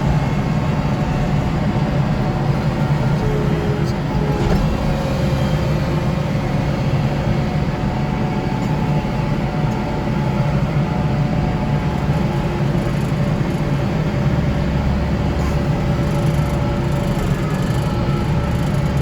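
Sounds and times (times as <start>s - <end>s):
tractor snow blower engine drone: 0.0s - 19.0s.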